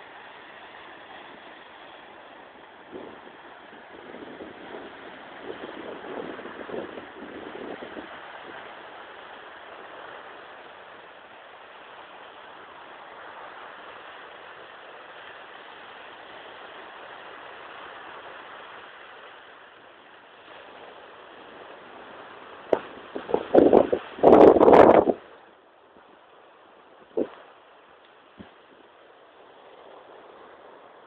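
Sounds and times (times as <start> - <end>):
sea surf on sandy beach: 0.0 - 31.0.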